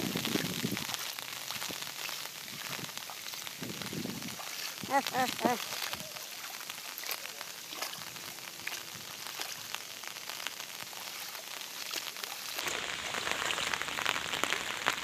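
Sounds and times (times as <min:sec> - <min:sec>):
rain pattering on water: 0:00.0 - 0:15.0.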